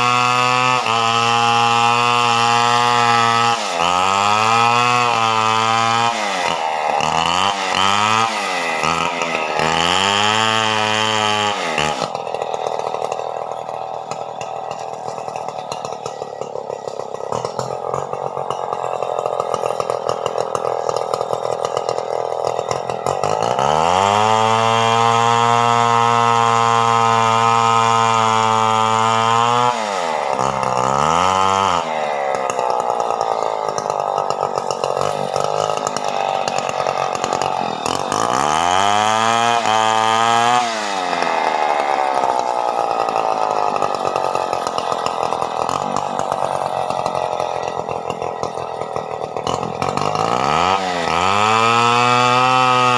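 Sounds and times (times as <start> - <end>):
chainsaw revving: 0.0 - 52.9.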